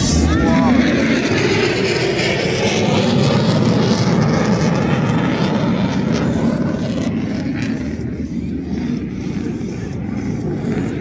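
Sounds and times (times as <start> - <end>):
airplane flying past: 0.0 - 11.0.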